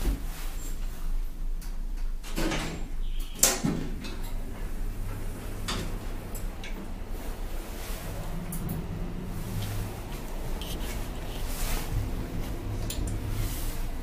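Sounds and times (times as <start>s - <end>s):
sliding doors humming: 2.4s - 14.0s.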